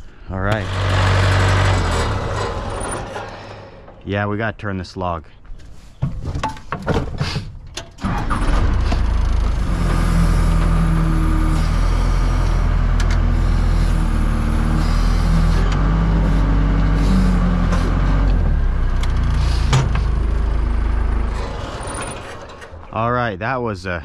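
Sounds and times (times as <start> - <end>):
sawmill engine running under load: 0.5 - 4.4, 8.0 - 23.5.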